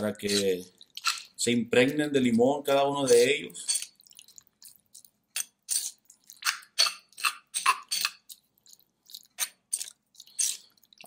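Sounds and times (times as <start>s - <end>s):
spoon squelching and scraping in bowl: 0.0s - 11.0s.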